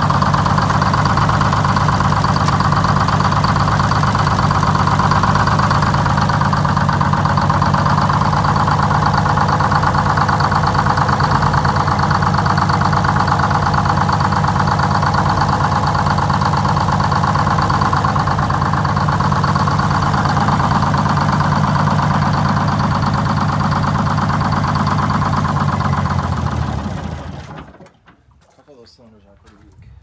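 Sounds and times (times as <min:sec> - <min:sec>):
diesel engine idling: 0:00.0 - 0:27.6.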